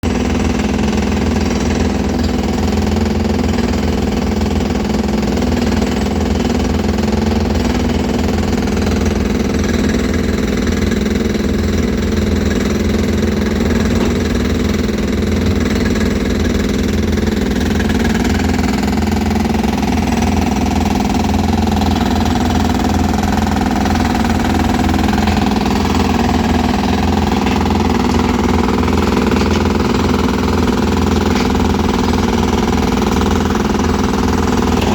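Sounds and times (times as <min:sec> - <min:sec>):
machine engine running: 0:00.0 - 0:34.9.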